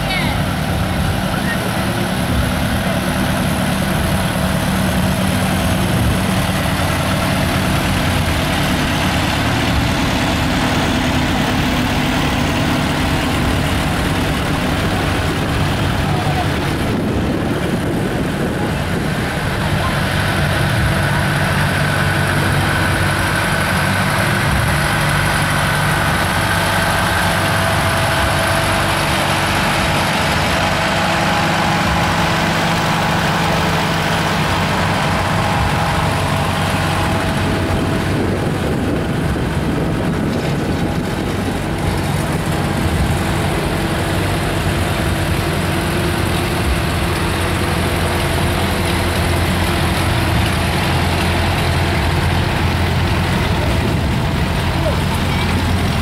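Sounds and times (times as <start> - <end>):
tractor engines droning: 0.0 - 56.0.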